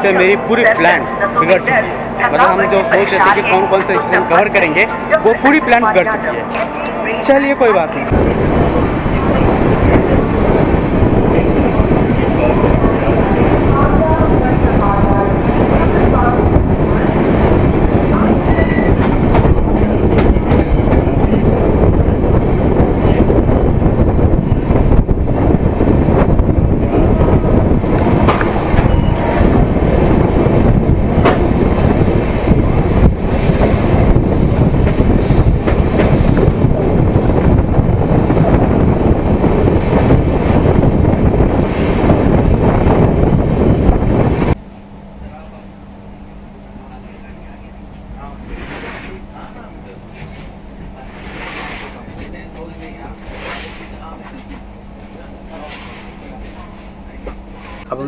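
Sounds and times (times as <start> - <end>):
train wheels rumbling on rails: 0.0 - 44.6, 46.7 - 58.0.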